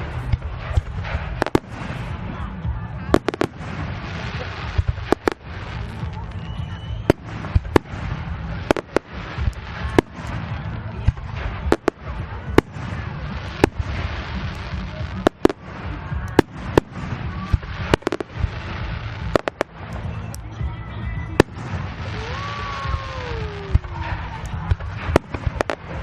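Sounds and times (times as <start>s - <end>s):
fireworks bangs: 0.0s - 26.0s
steady low rumble: 0.0s - 26.0s.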